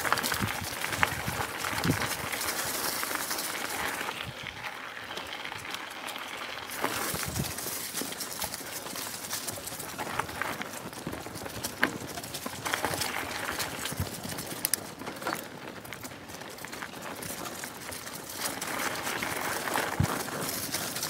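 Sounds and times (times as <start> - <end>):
bike clicks and rattles: 0.0 - 21.0
bike tyres rolling on dirt: 0.0 - 21.0.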